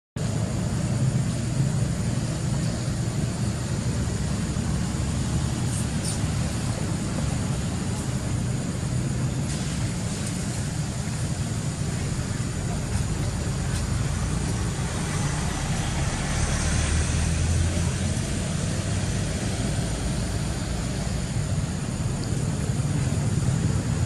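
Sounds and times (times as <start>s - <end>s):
low outdoor rumble: 0.2s - 24.0s.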